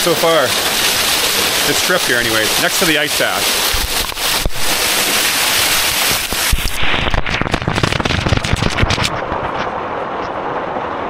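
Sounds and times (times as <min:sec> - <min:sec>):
crackling knocks and splashes: 0:00.0 - 0:10.4
waterfall rushing: 0:00.0 - 0:11.0.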